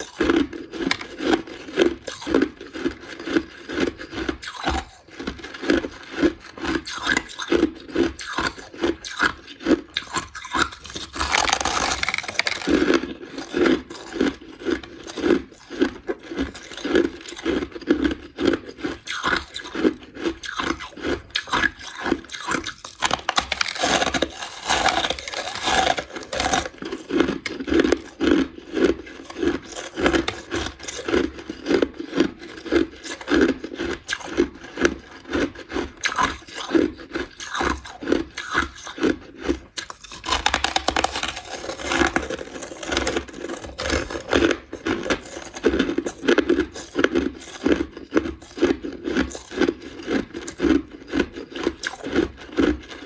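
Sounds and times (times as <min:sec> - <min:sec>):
ice being crunched and chewed: 0:00.0 - 0:53.0.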